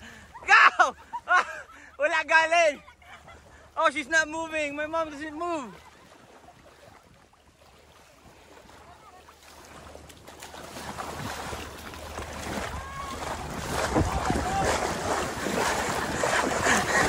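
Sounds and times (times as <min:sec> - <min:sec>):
water splashing around a boat: 0:00.0 - 0:17.0.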